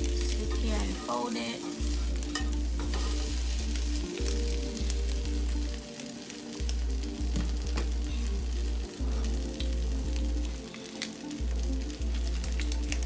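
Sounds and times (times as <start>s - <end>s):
music with heavy bass: 0.0s - 1.1s, 1.8s - 13.0s
omelette sizzling in a pan: 0.0s - 13.0s.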